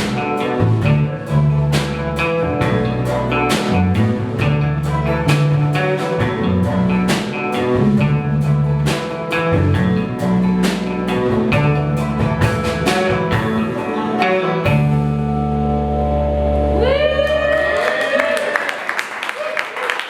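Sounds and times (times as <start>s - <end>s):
drum kit: 0.0s - 16.1s
bass notes: 0.0s - 17.8s
guitar: 0.0s - 18.5s.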